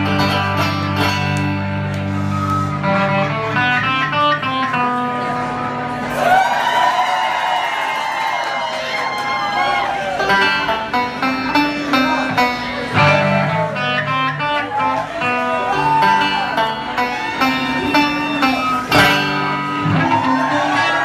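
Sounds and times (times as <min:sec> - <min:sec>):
banjo picking: 0:00.0 - 0:06.1, 0:09.9 - 0:21.0
live country band playing: 0:00.0 - 0:06.4, 0:08.8 - 0:21.0.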